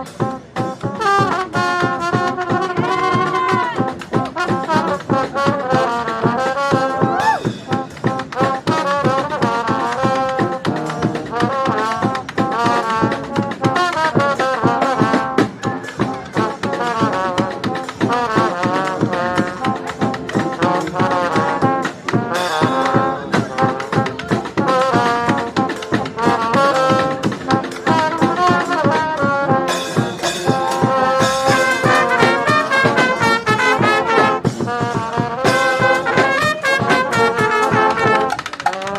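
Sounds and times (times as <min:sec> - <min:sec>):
brass band playing: 0:00.0 - 0:38.9.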